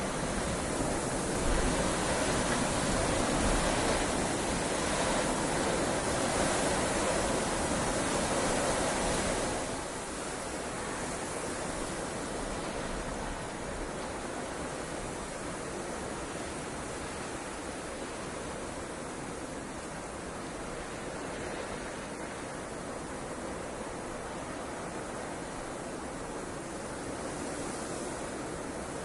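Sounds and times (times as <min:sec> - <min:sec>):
heavy rain hiss: 0:00.0 - 0:29.0.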